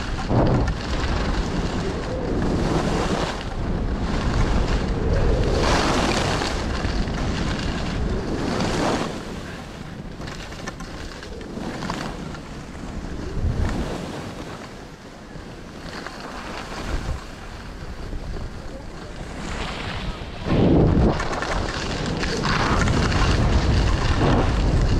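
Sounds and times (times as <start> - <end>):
wind gusts on microphone: 0.0 - 24.9.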